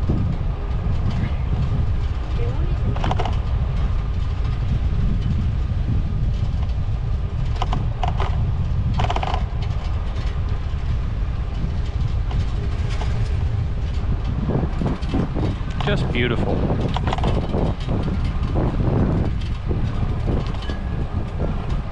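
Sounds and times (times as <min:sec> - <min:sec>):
road noise: 0:00.0 - 0:21.9
wind rumble on microphone: 0:00.0 - 0:21.9.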